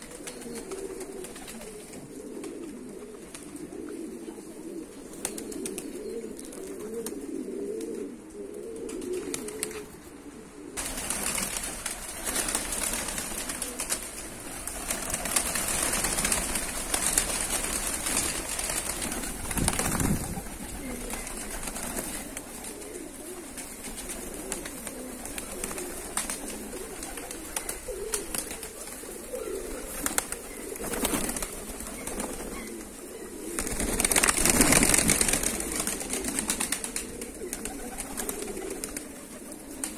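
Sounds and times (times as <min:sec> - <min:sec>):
pigeon wings flapping: 0:00.0 - 0:03.7, 0:05.2 - 0:06.0, 0:08.8 - 0:09.9, 0:10.8 - 0:32.8, 0:33.6 - 0:39.9
pigeons cooing: 0:00.0 - 0:39.9.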